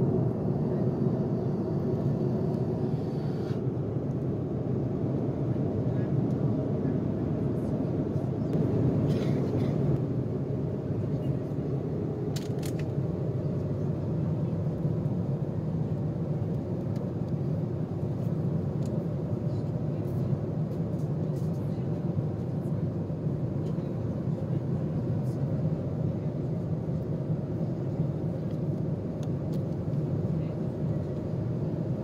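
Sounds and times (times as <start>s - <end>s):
airliner cabin rumble: 0.0s - 32.0s.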